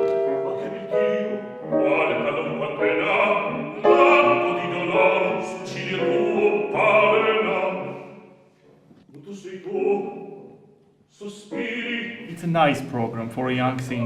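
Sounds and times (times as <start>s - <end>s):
operatic singing with vibrato: 0.0s - 14.0s.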